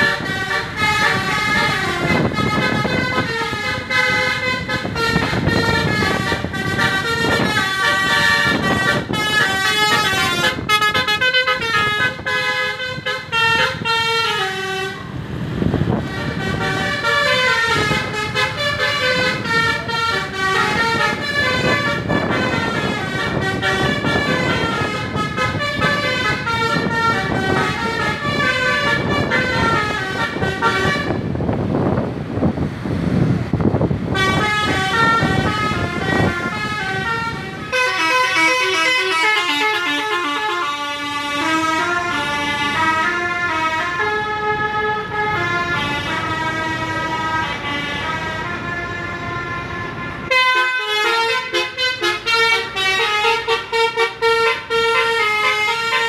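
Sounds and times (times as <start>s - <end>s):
multi-tone bus horn tune: 0.0s - 32.1s, 32.9s - 56.0s
engine and traffic rumble: 0.0s - 56.0s.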